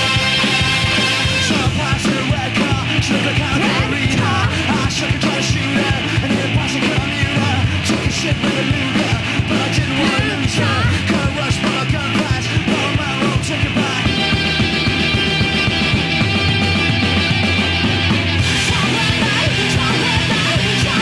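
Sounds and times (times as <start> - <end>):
distorted electric guitars: 0.0 - 21.0
drums: 0.0 - 21.0.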